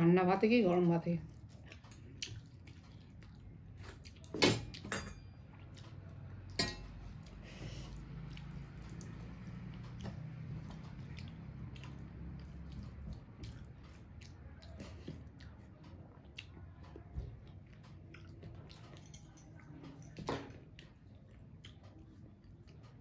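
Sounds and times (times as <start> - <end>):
wet chewing sounds: 1.1 - 23.0.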